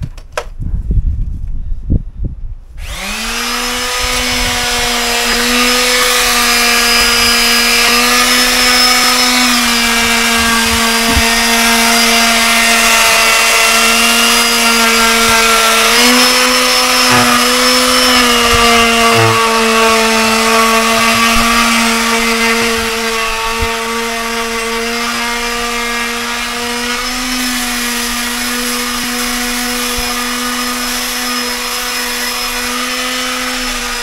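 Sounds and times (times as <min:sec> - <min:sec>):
power tool humming: 0:02.8 - 0:34.0.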